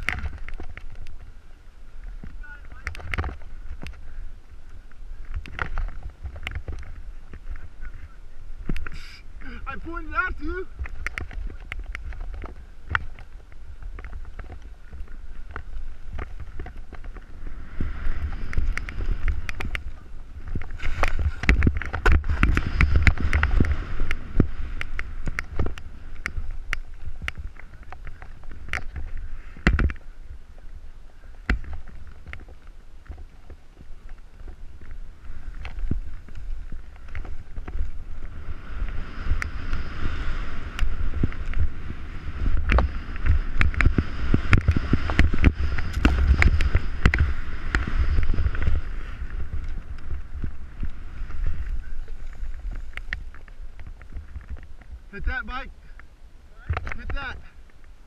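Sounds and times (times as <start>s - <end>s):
low wind rumble on microphone: 0.0s - 58.0s
snowboard scraping over snow: 5.7s - 29.6s, 31.6s - 55.5s.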